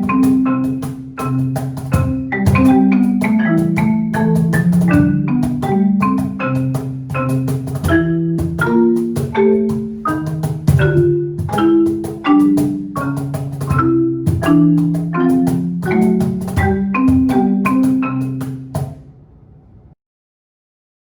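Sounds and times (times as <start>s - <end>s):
struck ringing melody notes: 0.0s - 18.9s.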